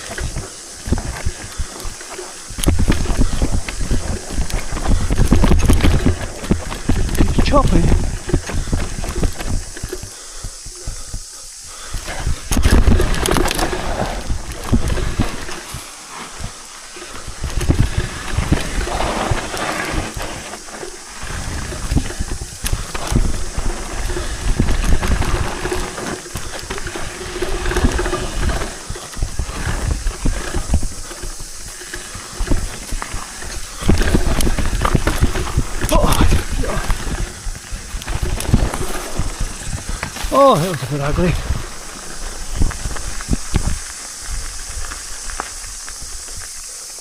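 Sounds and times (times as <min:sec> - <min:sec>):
bike knocks and rattles: 0:00.0 - 0:45.4
tyres rumbling over dirt: 0:00.0 - 0:47.0
wind noise on microphone: 0:00.0 - 0:47.0.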